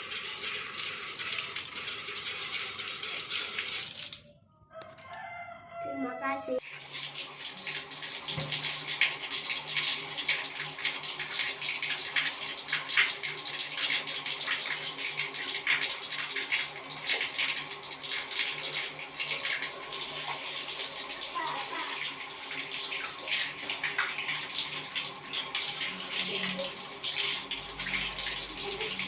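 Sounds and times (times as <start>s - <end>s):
water running from a tap: 0.0s - 4.3s, 5.7s - 29.0s.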